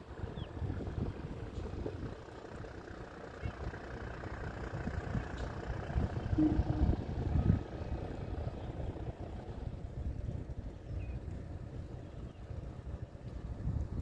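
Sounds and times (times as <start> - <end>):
wind buffeting microphone: 0.0 - 2.9, 3.6 - 14.0
low hum: 0.0 - 14.0.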